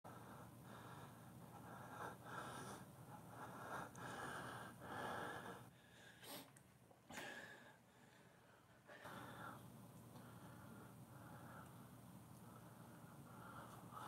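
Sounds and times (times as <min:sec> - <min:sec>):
man breathing close to microphone: 0:00.1 - 0:06.5, 0:07.1 - 0:14.0.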